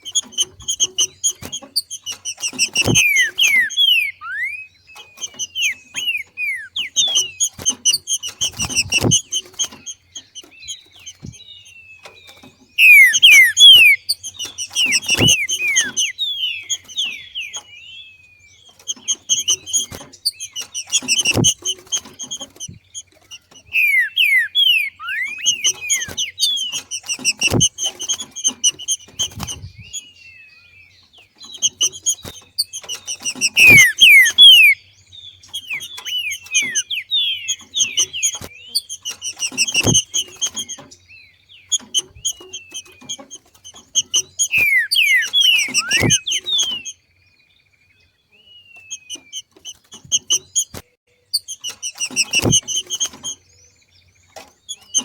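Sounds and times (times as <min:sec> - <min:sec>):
bird falling chirps: 0:00.1 - 0:17.8, 0:18.7 - 0:30.1, 0:31.4 - 0:41.1, 0:41.7 - 0:47.0.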